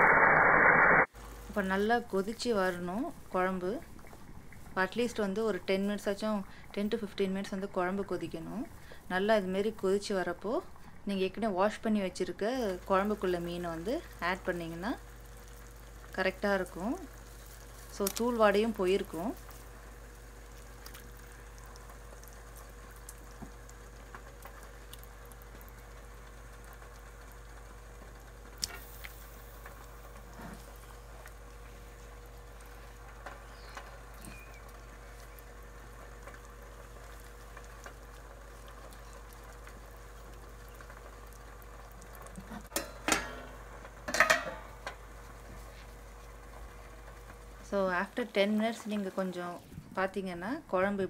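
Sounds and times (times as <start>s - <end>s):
faint steady hum: 0.0s - 51.0s
curry bubbling in a pot: 1.2s - 49.4s.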